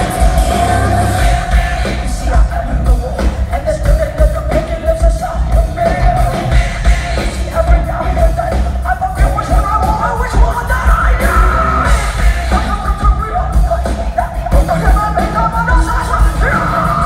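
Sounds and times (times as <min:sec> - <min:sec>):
electric guitars: 0:00.0 - 0:17.0
heavy pounding drums: 0:00.0 - 0:17.0
sung vocal: 0:00.0 - 0:17.0.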